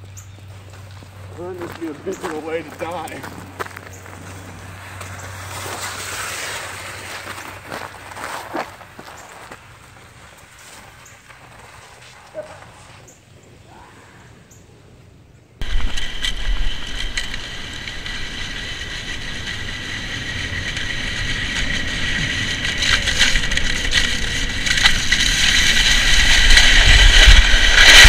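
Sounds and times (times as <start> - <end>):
sled runners scraping ice: 0.4 - 13.2, 15.6 - 28.0.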